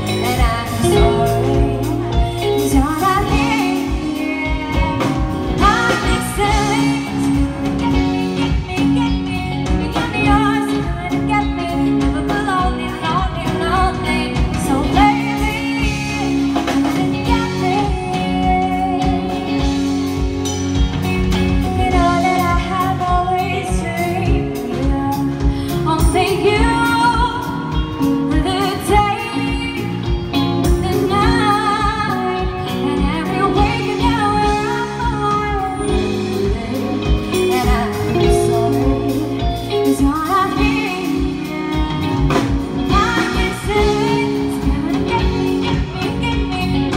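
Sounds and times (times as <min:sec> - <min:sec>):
pop band playing: 0:00.0 - 0:46.9
woman singing lead: 0:00.0 - 0:46.9.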